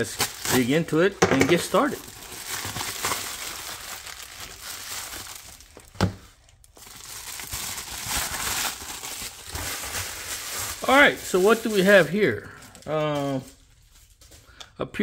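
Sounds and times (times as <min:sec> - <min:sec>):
packaging crinkling and rustling: 0:00.0 - 0:14.5.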